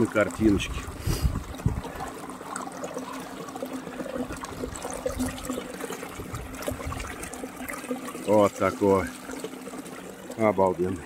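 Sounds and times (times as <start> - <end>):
water running and trickling: 0.0 - 11.0.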